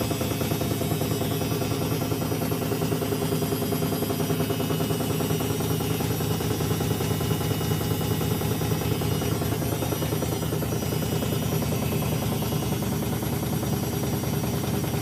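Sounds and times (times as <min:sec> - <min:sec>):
drum knocking fast: 0:00.0 - 0:15.0
washing machine spinning: 0:00.0 - 0:15.0.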